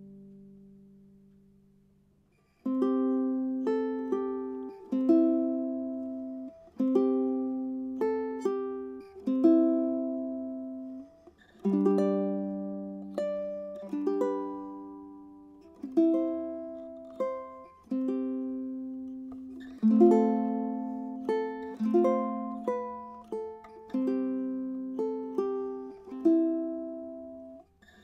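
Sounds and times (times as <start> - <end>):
solo ukulele plucked: 0.0 - 1.6, 2.6 - 28.0.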